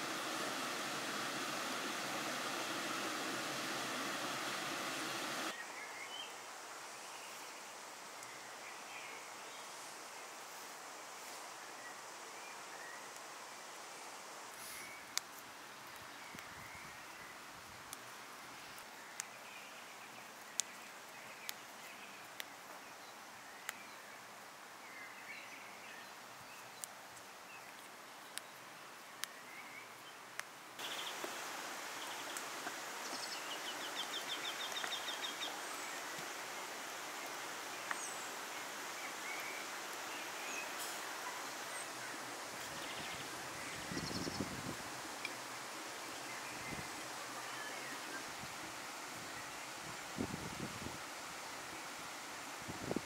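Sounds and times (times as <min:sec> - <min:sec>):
background hiss: 0:00.0 - 0:53.0.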